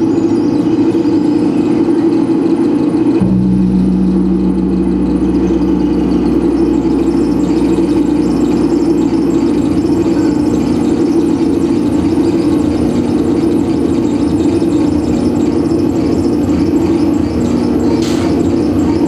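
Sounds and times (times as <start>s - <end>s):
droning wall of noise: 0.0s - 19.0s
deep low hum: 3.2s - 19.0s.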